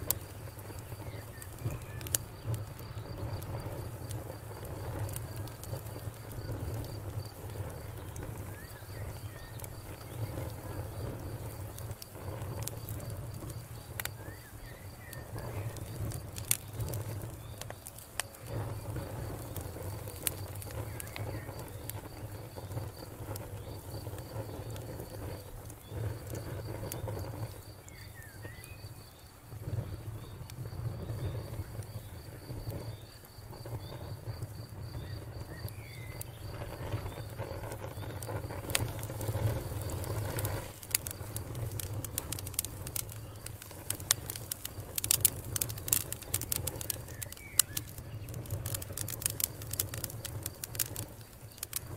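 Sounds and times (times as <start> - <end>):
campfire crackling and popping: 0.0 - 51.9
insect trill: 0.0 - 51.9.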